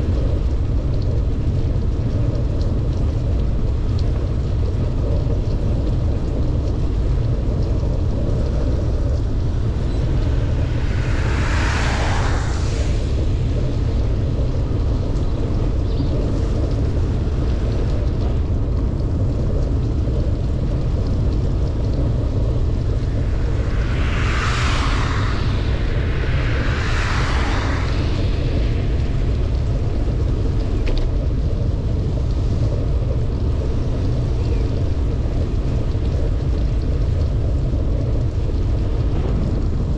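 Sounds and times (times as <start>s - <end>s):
pouring rain: 0.0s - 39.9s
wind rumble on microphone: 0.0s - 39.9s
tyres swishing on wet road: 6.2s - 39.9s.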